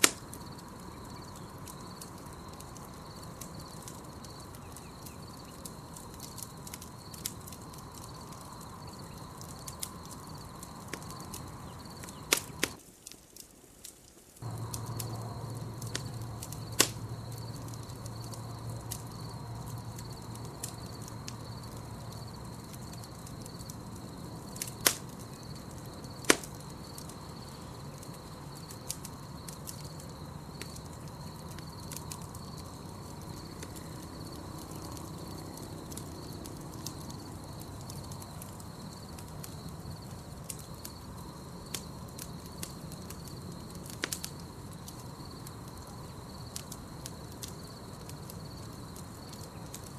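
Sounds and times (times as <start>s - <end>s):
high insect trill: 0.0s - 12.8s, 14.4s - 49.9s
campfire crackling and popping: 0.0s - 49.9s
low rumble of flames: 0.0s - 49.9s.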